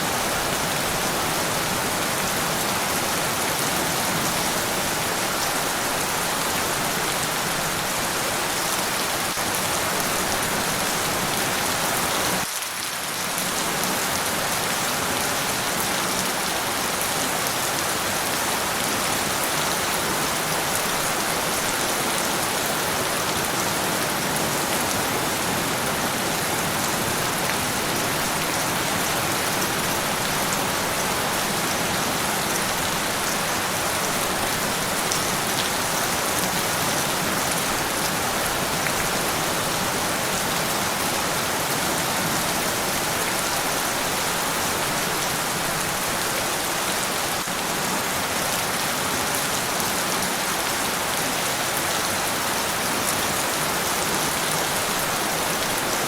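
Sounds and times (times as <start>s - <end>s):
dense rainfall hissing: 0.0s - 56.0s.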